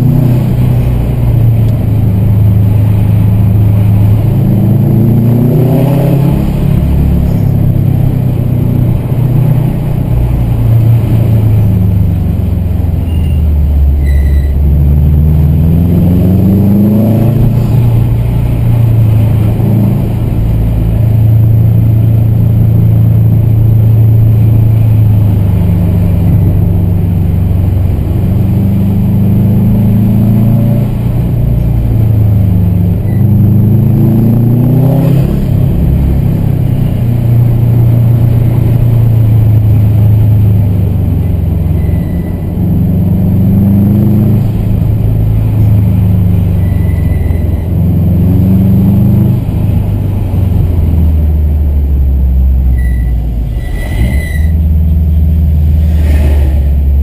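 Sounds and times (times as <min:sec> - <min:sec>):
car engine from inside cabin: 0:00.0 - 0:57.0.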